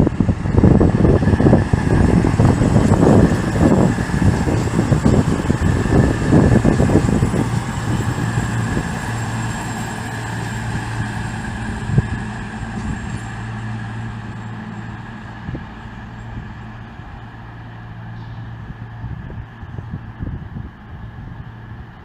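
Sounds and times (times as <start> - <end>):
train engine hum: 0.0 - 22.0.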